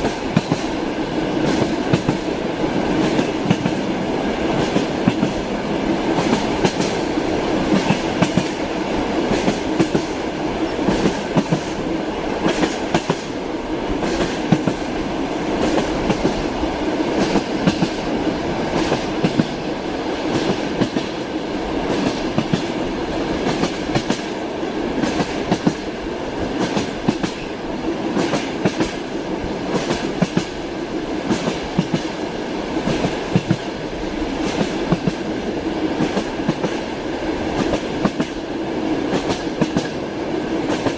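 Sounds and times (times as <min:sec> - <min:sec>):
train rumbling: 0:00.0 - 0:40.9
wheels clickety-clack on rail joints: 0:00.0 - 0:40.9.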